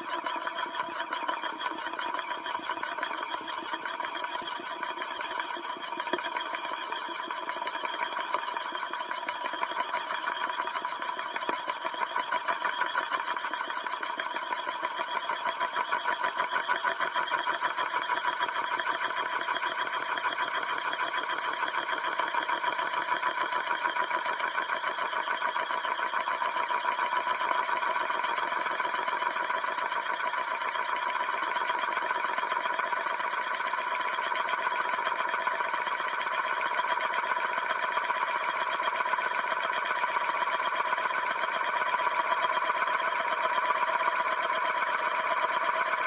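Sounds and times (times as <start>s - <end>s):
mechanism spinning with pulsing whir: 0.0s - 46.0s.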